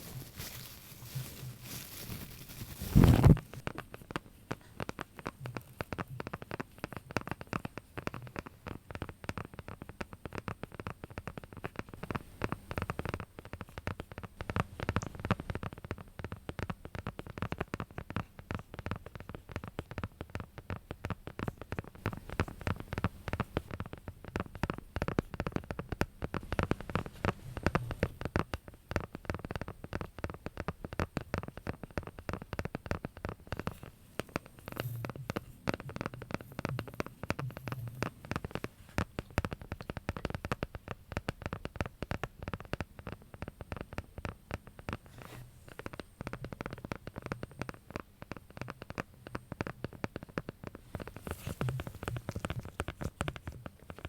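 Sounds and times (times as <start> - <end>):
fingers tapping and scratching: 0.0 - 54.0.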